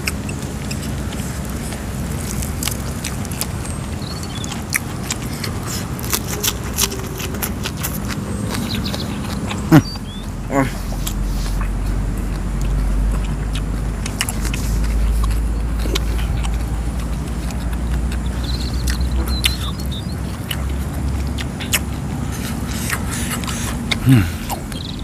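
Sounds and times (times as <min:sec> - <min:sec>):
chewing and crunching: 0:00.0 - 0:25.0
steady low rumble: 0:00.0 - 0:25.0.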